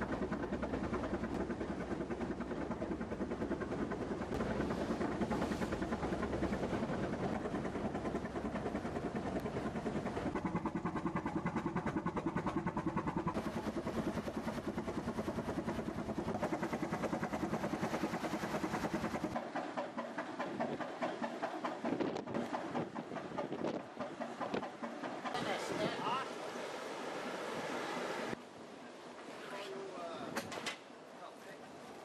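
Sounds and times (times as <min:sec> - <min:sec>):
marine engine running: 0:00.0 - 0:28.4.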